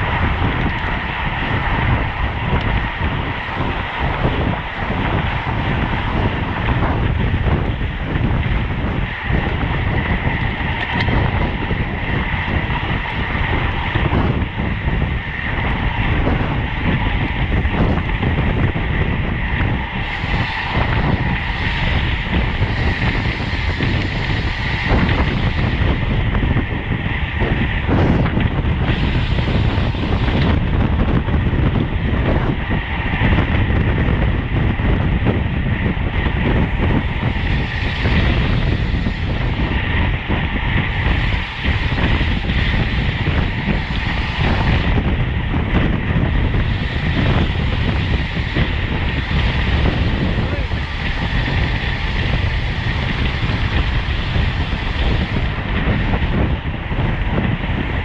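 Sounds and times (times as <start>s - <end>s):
road bike rolling noise: 0.0s - 58.0s
wind buffeting microphone: 0.0s - 58.0s.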